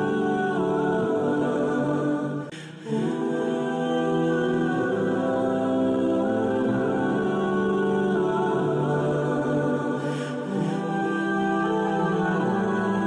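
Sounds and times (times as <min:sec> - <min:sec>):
music with wordless vocal notes: 0:00.0 - 0:13.0.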